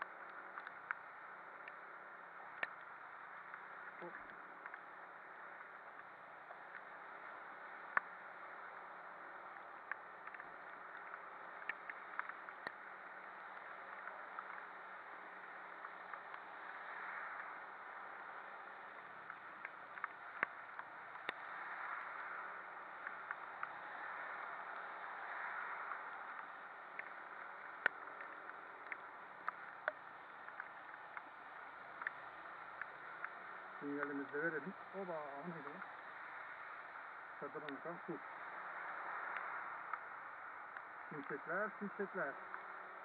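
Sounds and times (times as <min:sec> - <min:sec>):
raindrops ticking on camera: 0:00.0 - 0:43.0.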